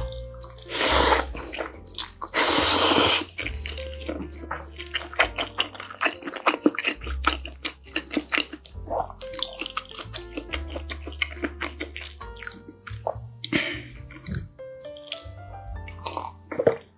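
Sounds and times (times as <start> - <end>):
background music with low bass: 0.0 - 16.9
wet chewing: 0.0 - 16.9.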